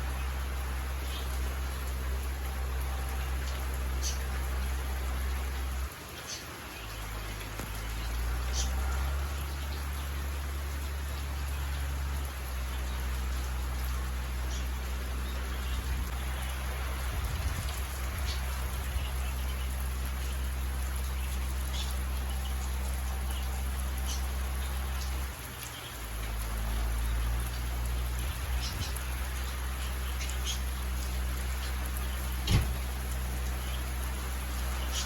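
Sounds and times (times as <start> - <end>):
steady rain hiss: 0.0 - 35.0
water drips ticking: 0.0 - 35.0.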